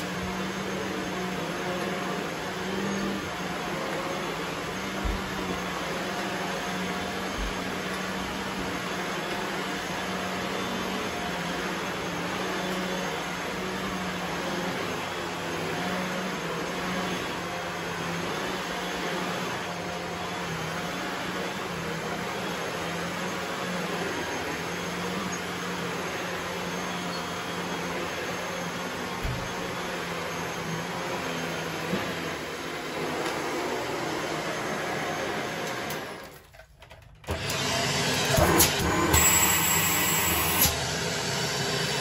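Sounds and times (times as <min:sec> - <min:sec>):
upright vacuum cleaner running: 0:00.0 - 0:36.6, 0:37.2 - 0:42.0.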